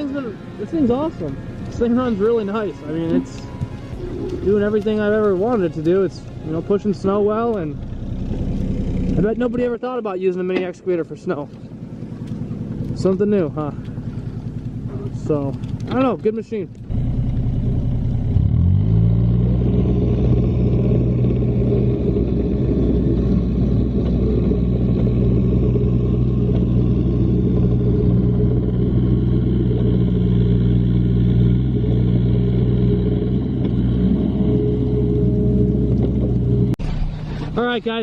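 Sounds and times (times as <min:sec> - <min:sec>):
excavator diesel engine revving: 0:00.0 - 0:09.8, 0:16.8 - 0:38.0.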